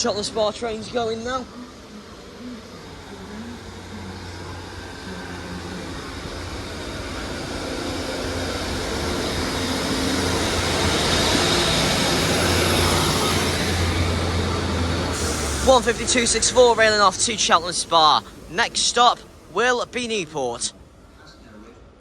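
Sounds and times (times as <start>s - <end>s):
diesel train engine pulling away: 0.0s - 22.0s.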